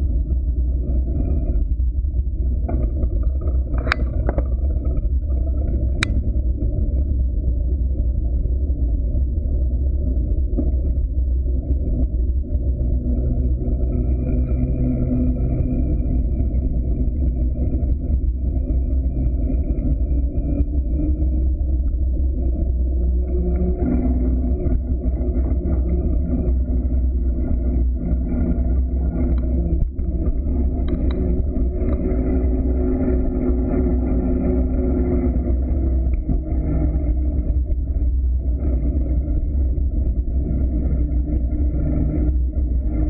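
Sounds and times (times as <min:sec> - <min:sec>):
bike tyres humming on asphalt: 0:00.0 - 0:43.0
wind rumbling on microphone: 0:00.0 - 0:43.0
faint clicks and rattles: 0:00.1 - 0:14.6, 0:16.0 - 0:43.0.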